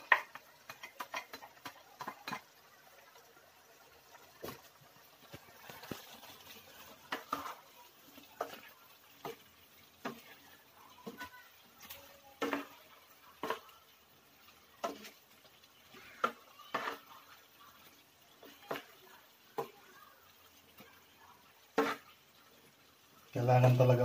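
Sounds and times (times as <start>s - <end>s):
spatula scraping frying pan: 0.0s - 2.6s, 4.1s - 22.8s.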